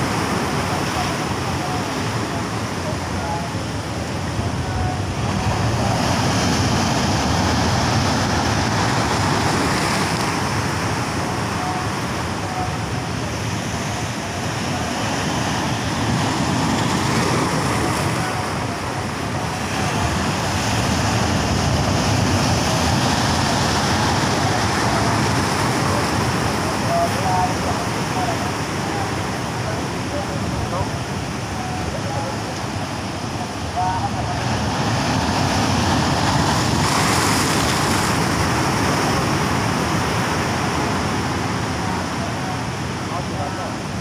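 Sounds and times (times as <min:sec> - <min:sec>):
surf breaking over rocks: 0:00.0 - 0:44.0.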